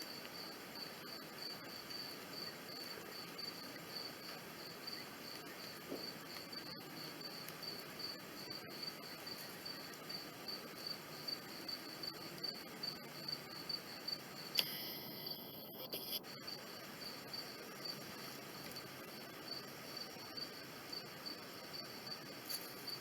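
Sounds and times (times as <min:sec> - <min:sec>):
cricket chirping: 0:00.1 - 0:23.0.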